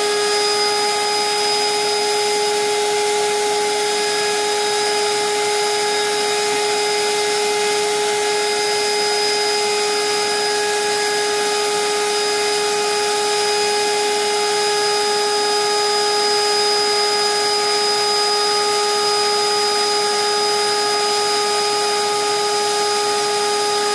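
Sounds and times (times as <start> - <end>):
vacuum cleaner running: 0.0 - 23.9.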